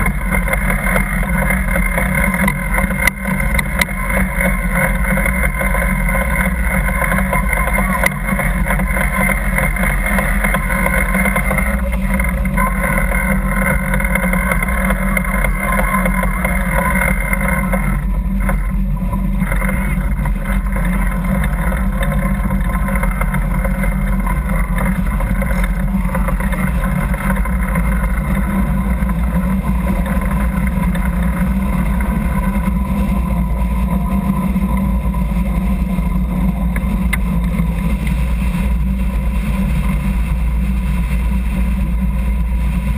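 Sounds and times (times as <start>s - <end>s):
low steady hum: 0.0s - 42.9s
wind and water rushing past hull: 0.0s - 42.9s.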